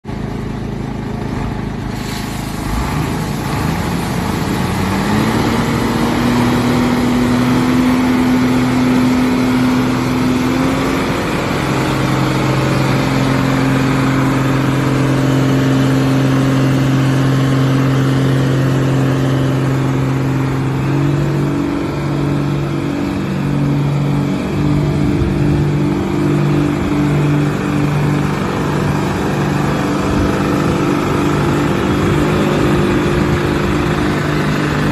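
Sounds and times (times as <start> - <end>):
diesel truck engine running: 0.1 - 34.9
water splashing onto ground: 1.4 - 34.9.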